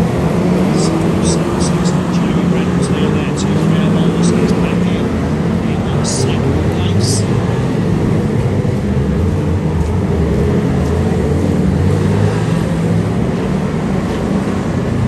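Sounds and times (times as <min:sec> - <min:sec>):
racing car engines droning: 0:00.0 - 0:15.0.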